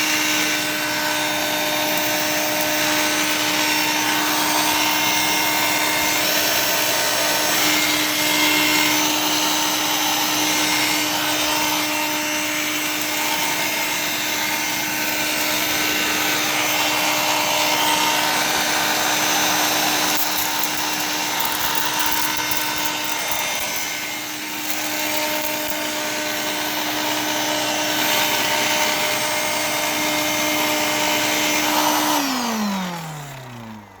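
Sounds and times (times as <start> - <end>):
handheld vacuum motor whine: 0.0 - 34.0.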